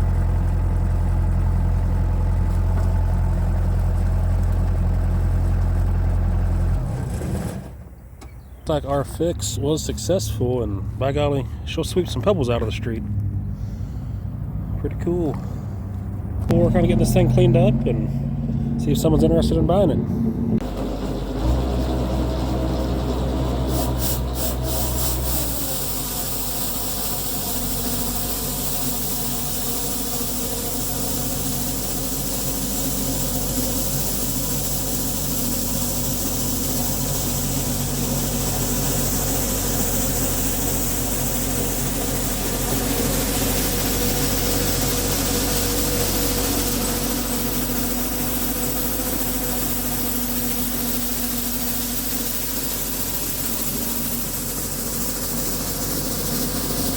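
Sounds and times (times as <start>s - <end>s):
engine running: 0.0s - 56.9s.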